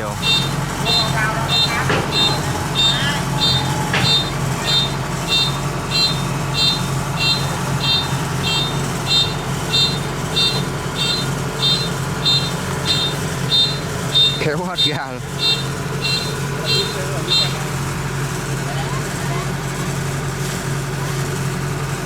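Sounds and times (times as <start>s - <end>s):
warning beeper: 0.0s - 18.0s
combine harvester engine running: 0.0s - 22.0s.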